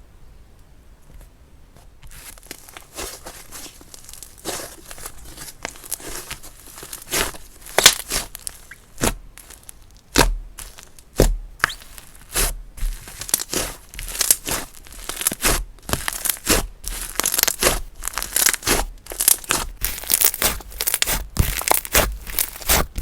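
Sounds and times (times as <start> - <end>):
hands squishing slime: 2.2 - 23.0.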